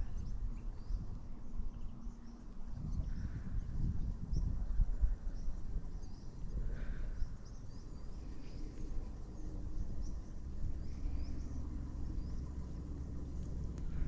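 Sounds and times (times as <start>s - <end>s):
low steady rumble: 0.0s - 14.0s
small birds chirping: 0.0s - 14.0s.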